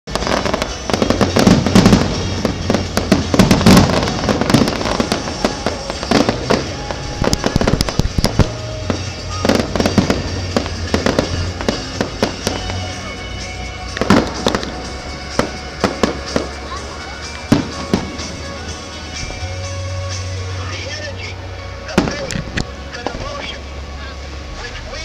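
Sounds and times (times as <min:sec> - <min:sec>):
fireworks bangs and crackles: 0:00.1 - 0:21.0, 0:21.9 - 0:23.5.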